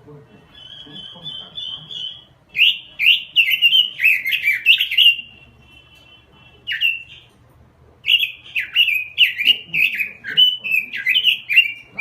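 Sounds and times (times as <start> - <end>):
bird singing warbled phrases: 0.0 - 7.4, 8.0 - 12.0
faint bird trill: 0.3 - 7.4, 8.0 - 12.0.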